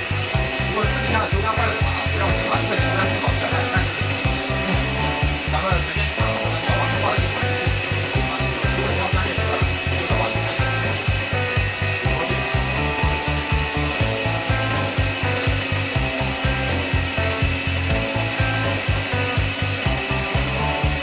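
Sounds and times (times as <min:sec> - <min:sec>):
background music with bass beat: 0:00.0 - 0:21.0
lathe motor whirring: 0:00.0 - 0:21.0.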